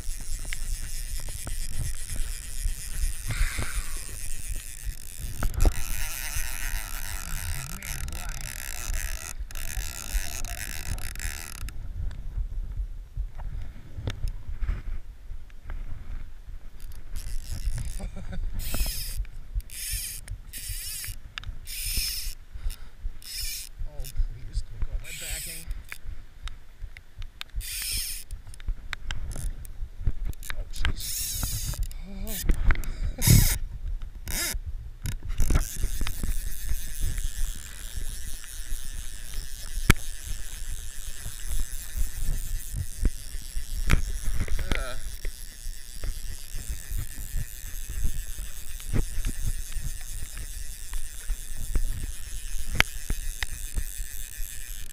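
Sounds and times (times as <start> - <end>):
fly line zipping rasp: 0.0 - 11.7, 16.8 - 24.2, 25.0 - 26.0, 27.6 - 28.4, 30.3 - 32.6, 33.2 - 33.6, 34.2 - 54.9
fishing reel drag clicking: 0.0 - 11.8, 16.7 - 24.2, 25.0 - 26.0, 27.4 - 33.6, 34.2 - 54.9.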